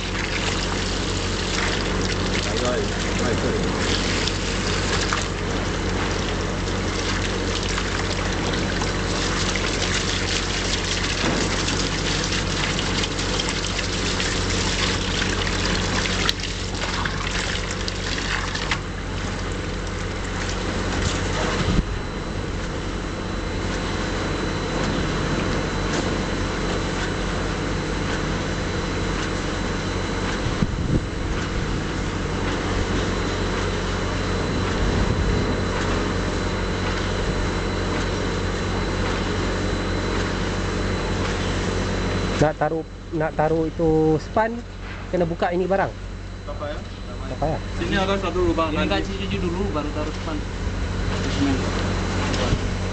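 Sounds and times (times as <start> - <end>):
mortar pump mixer humming: 0.0 - 52.9.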